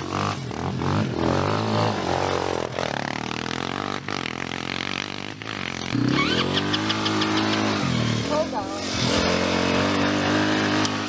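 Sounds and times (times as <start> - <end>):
atv engines revving: 0.0 - 11.0.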